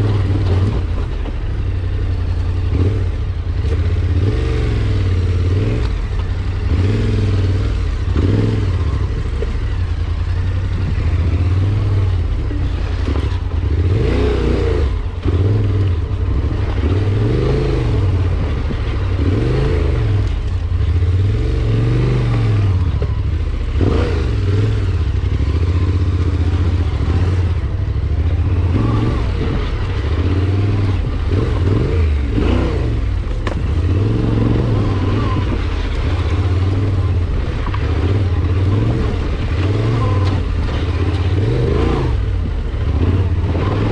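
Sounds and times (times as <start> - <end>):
vehicle engine revving: 0.0 - 43.9.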